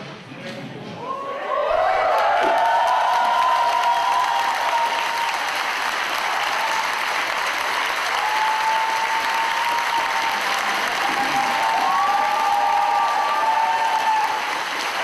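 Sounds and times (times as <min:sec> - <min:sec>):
crowd applauding: 0:01.6 - 0:15.0.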